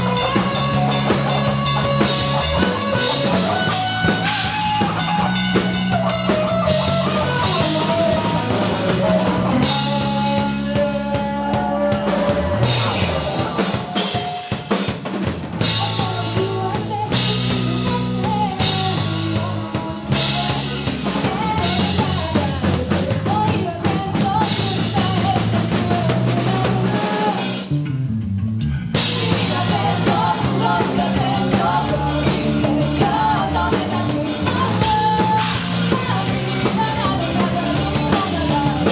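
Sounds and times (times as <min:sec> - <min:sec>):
drum kit beat: 0:00.0 - 0:27.9, 0:28.8 - 0:38.9
rock band music: 0:00.0 - 0:38.9.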